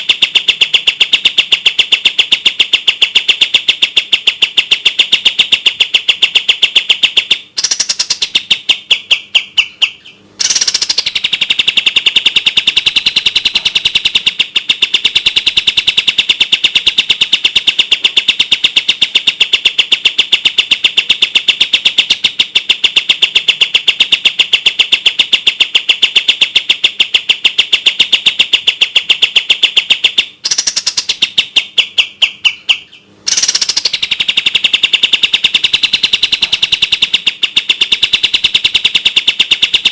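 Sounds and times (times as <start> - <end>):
songbird rapid trill: 0.0 - 39.9.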